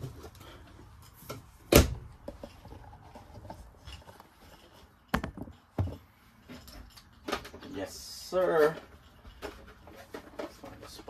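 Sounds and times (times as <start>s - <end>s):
small clicks and rubbing: 2.1s - 11.0s.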